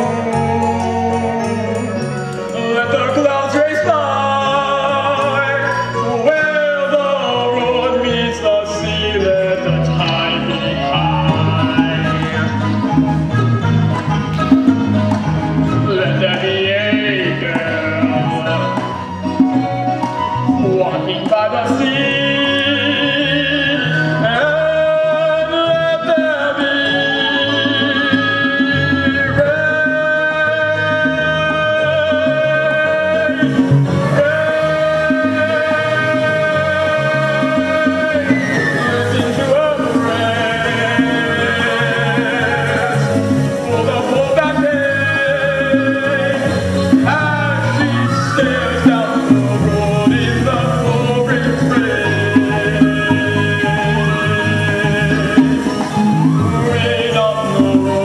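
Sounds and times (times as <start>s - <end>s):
band playing: 0.0s - 58.0s
orchestral accompaniment: 0.0s - 58.0s
singer holding notes with vibrato: 0.0s - 58.0s.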